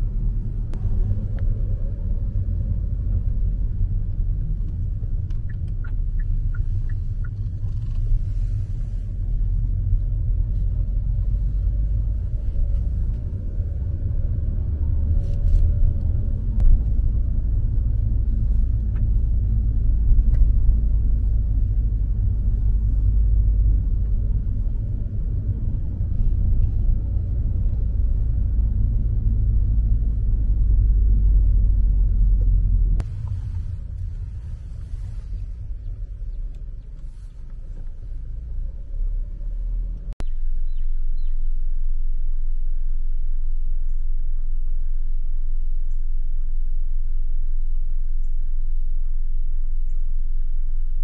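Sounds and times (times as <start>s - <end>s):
car driving rumble inside cabin: 0.0s - 51.0s.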